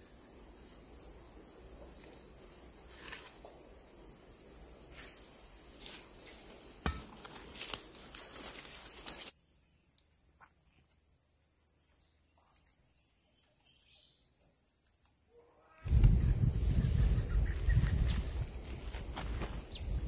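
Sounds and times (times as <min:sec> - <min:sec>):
background noise: 0:00.0 - 0:20.0
insects droning: 0:00.0 - 0:20.0.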